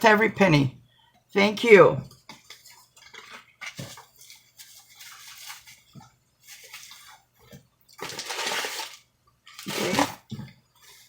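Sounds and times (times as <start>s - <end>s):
rustling and handling: 2.1s - 11.0s.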